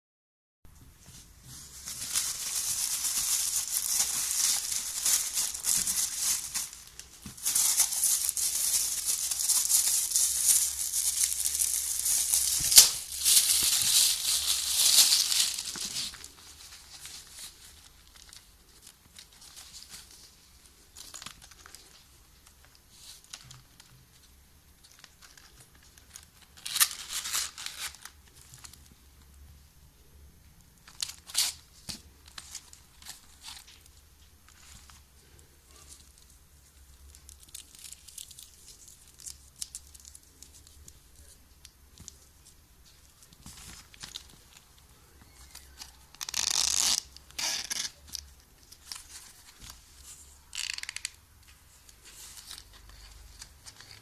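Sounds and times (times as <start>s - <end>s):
crinkling rustling handling noise: 0.8s - 29.4s, 30.7s - 54.0s.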